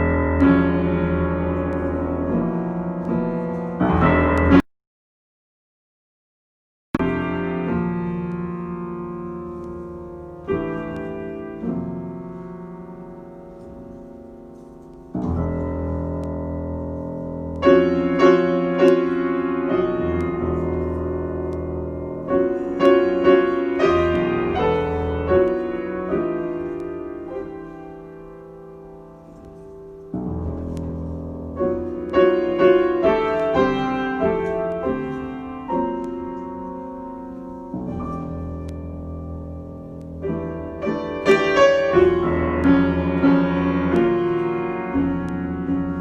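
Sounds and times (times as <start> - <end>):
solo piano: 0.0 - 4.7, 7.0 - 46.0.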